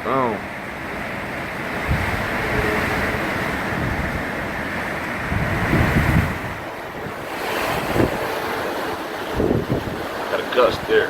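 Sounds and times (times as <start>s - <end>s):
strong wind blowing: 0.0s - 11.0s
wind gusts buffeting microphone: 0.0s - 11.0s.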